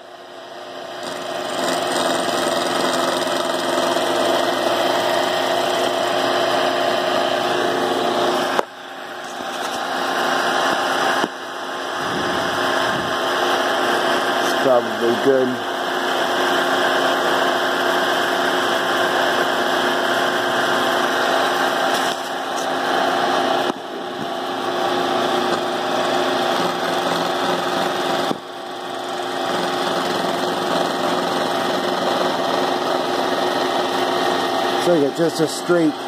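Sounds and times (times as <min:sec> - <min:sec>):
power tool motor whine: 0:00.0 - 0:36.0.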